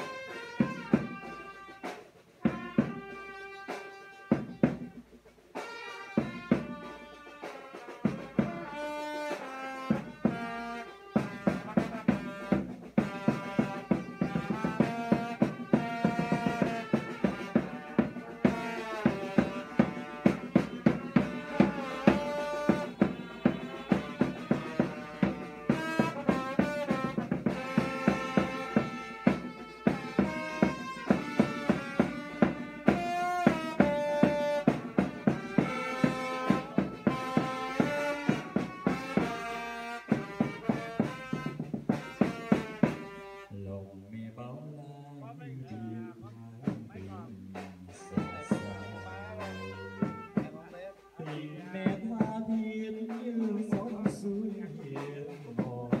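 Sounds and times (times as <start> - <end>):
drum beating: 0.0 - 43.5, 45.6 - 56.0
trombone and trumpets melody: 0.0 - 44.0, 45.6 - 56.0.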